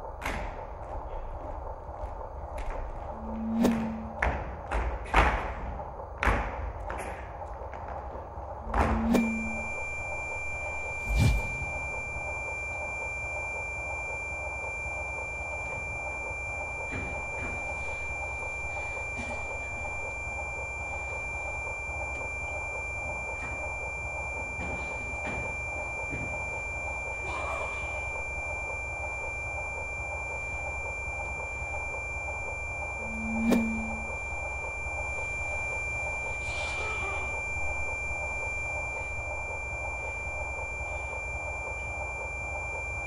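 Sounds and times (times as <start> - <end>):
high-pitched whine: 0.0 - 43.0.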